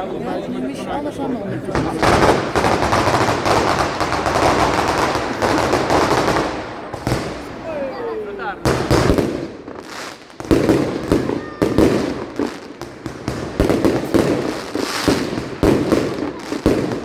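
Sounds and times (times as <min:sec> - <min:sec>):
firecracker barrage: 0:01.7 - 0:17.0.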